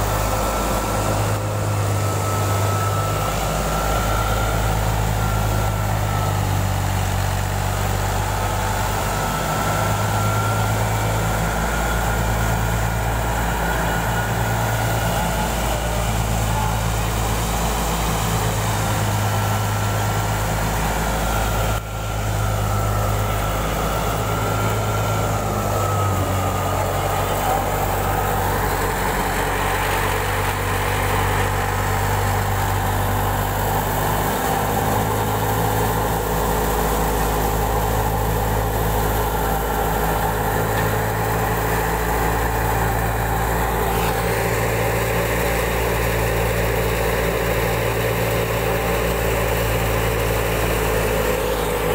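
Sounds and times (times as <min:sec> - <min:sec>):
wheat thresher droning: 0:00.0 - 0:51.9.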